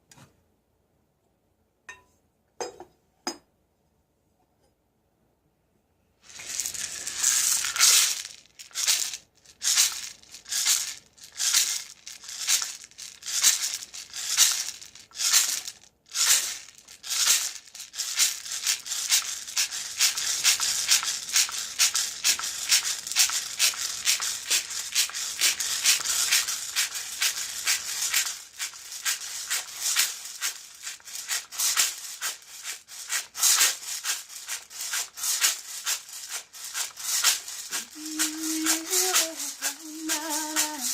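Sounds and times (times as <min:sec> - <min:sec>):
hand rattle shaking: 0:06.2 - 0:40.9.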